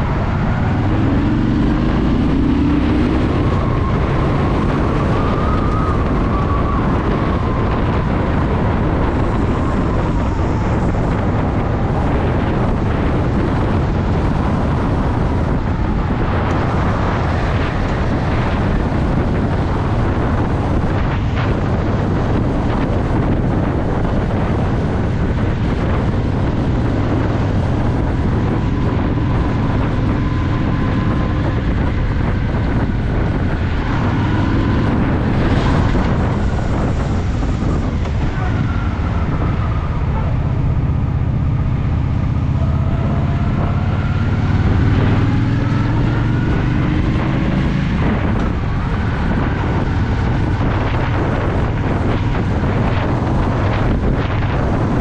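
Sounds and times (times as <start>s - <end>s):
motorcycle engine revving: 0.0s - 55.0s
wind buffeting microphone: 0.0s - 55.0s.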